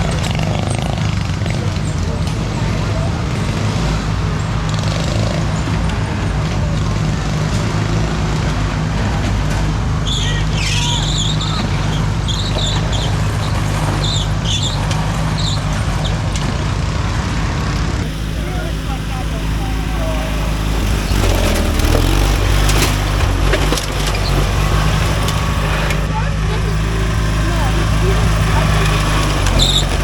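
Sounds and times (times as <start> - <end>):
lawn mower engine drone: 0.0 - 30.0.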